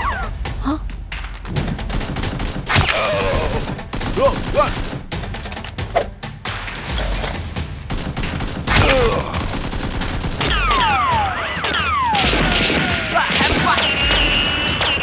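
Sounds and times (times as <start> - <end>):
rapid gunfire: 1.3 - 15.0.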